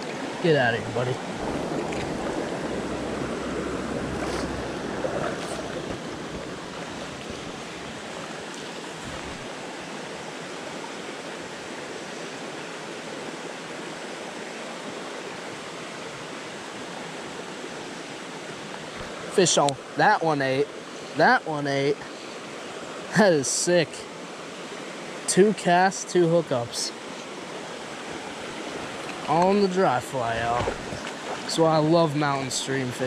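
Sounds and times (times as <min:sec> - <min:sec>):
stream running over rocks: 0:00.0 - 0:33.0.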